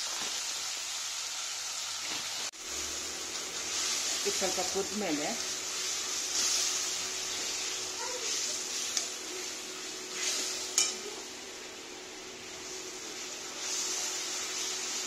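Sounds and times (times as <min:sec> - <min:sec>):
steady sizzling hiss: 0:00.0 - 0:15.0.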